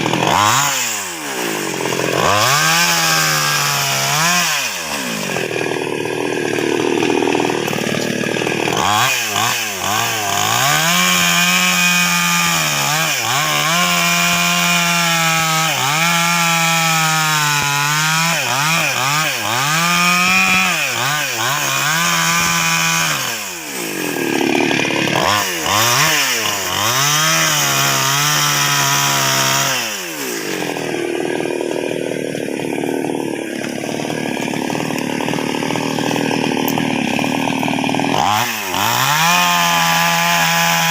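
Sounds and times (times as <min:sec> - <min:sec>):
chainsaw cutting through trunk: 0:00.0 - 0:40.9.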